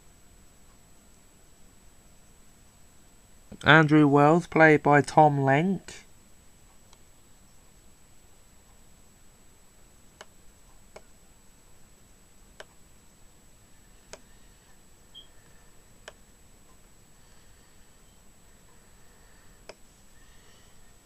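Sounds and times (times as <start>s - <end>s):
faint high-pitched whine: 0.0s - 21.0s.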